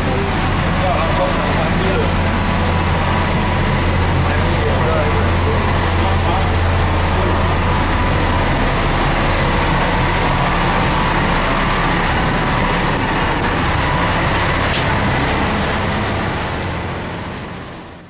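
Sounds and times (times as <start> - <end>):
boat engine drone: 0.0 - 18.0
rushing wake water: 0.0 - 18.0.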